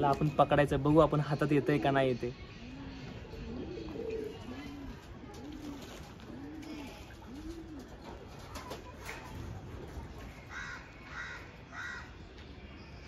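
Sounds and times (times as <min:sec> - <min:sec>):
pigeons cooing: 0:00.0 - 0:12.2.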